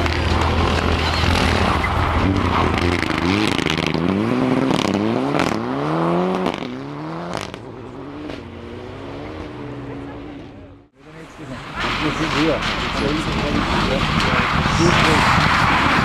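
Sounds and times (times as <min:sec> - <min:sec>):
rally car accelerating: 0:00.0 - 0:16.0.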